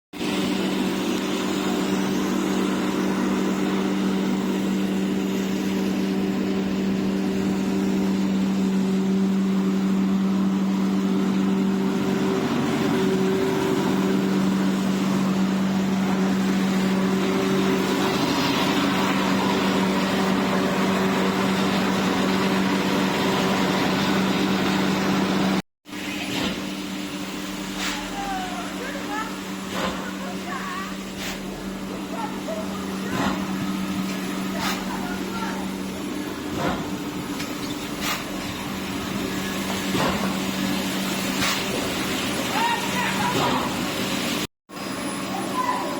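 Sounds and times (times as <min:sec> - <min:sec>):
machinery humming: 0:00.2 - 0:45.9
mechanical wash: 0:00.2 - 0:45.9.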